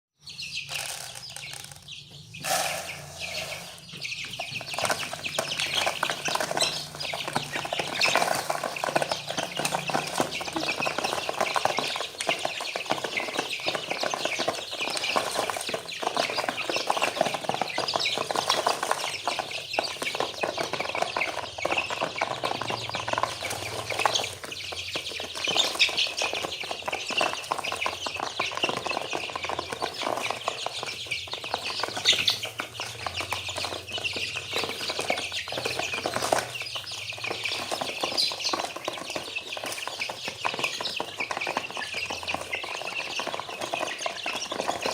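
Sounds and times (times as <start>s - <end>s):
chicks peeping and chirping: 0.2s - 44.9s.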